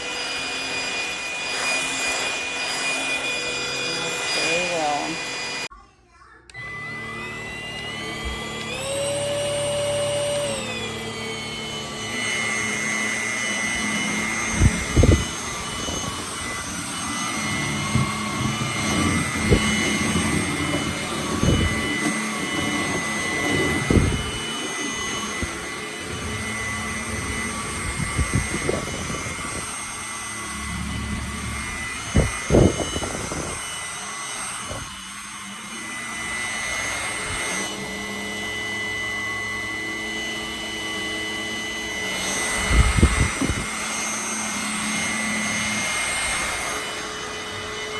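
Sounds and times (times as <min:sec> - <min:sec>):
vacuum motor whine: 0:00.0 - 0:05.7, 0:06.5 - 0:47.9.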